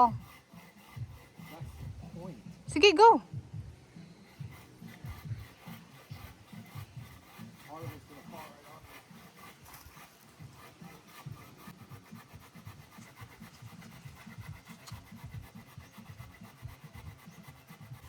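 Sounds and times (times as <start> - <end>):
hand saw cutting wood: 0.0 - 18.0.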